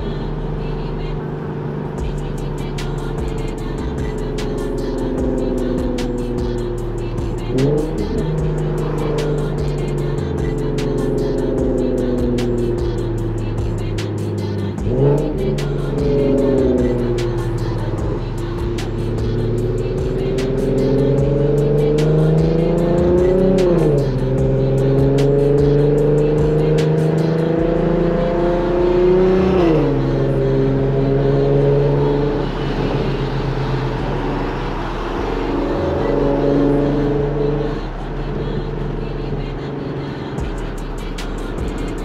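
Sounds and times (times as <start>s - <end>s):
car engine accelerating: 0.0s - 42.0s
faint music beat: 0.0s - 42.0s.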